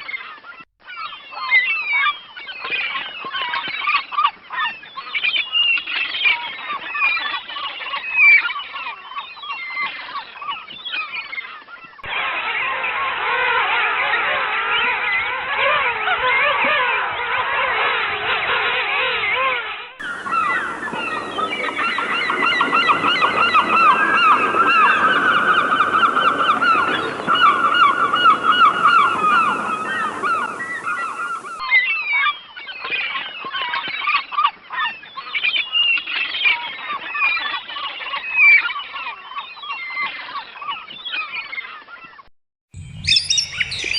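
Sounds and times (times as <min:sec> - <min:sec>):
many birds calling: 0:00.0 - 0:42.2, 0:42.8 - 0:43.9.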